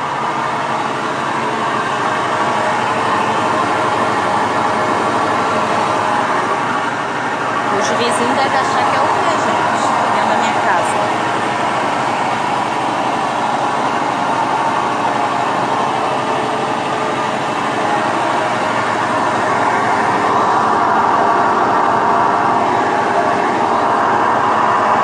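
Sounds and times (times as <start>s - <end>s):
washing machine drone: 0.0s - 25.0s.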